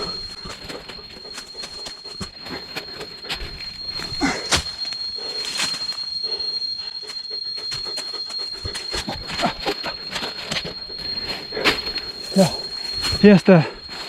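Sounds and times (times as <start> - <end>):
high whine: 0.0 - 14.0.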